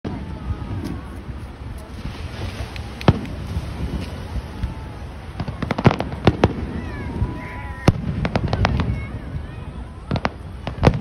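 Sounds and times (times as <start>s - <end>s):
crackling firework bangs: 0.1s - 11.0s.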